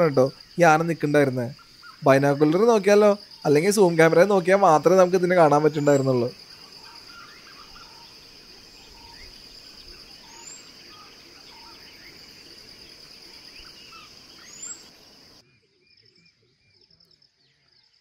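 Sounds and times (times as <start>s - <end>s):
pulsing insect trill: 0.0s - 15.4s.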